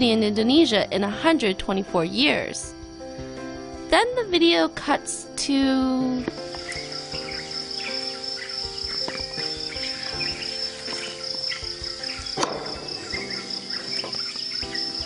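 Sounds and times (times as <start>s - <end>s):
insects chirring: 0.0s - 15.0s
light background music: 0.0s - 15.0s.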